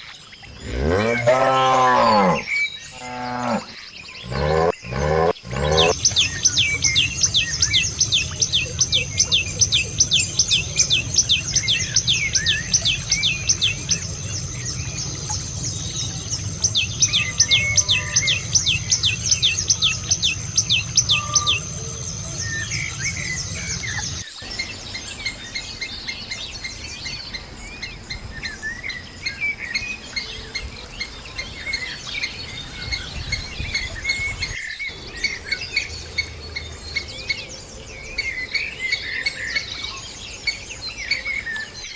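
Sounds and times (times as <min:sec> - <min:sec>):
birds chirping chorus: 0:00.0 - 0:41.9.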